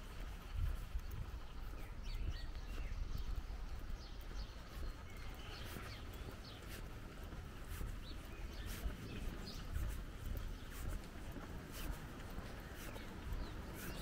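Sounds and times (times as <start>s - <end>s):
small birds chirping: 0.0s - 14.0s
soft footsteps: 0.0s - 14.0s.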